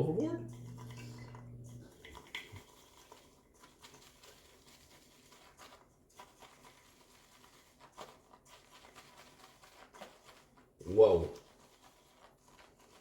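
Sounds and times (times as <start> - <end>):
shaving brush swishing lather: 0.0 - 13.0.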